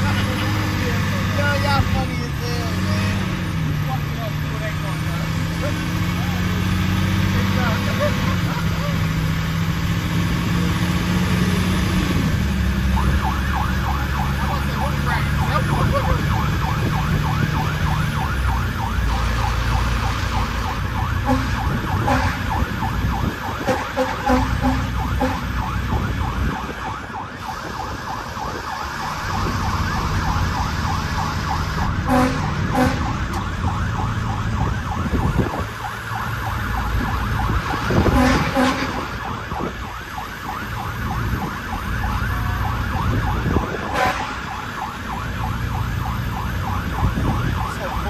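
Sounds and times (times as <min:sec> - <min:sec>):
diesel engine running: 0:00.0 - 0:48.0
fire truck siren warbling: 0:00.0 - 0:48.0.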